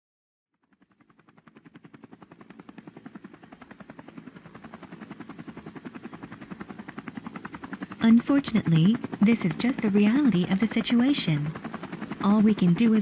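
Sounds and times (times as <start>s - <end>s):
helicopter rotor chopping: 0.6s - 13.0s.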